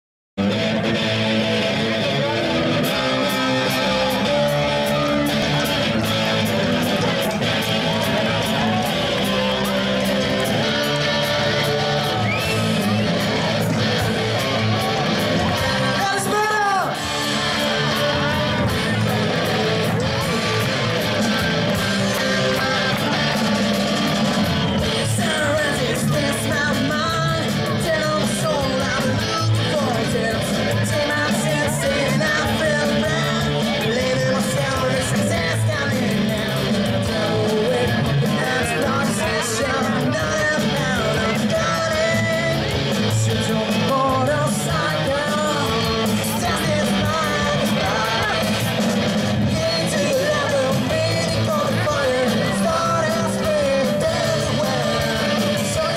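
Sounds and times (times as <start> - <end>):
bass guitar: 0.4 - 55.9
drum kit: 0.4 - 55.9
electric guitars: 0.4 - 55.9
man singing: 0.4 - 55.9.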